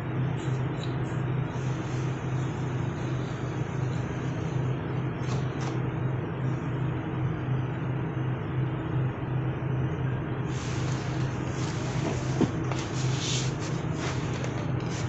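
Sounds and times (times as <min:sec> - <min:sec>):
steady motor hum and hiss: 0:00.0 - 0:15.0.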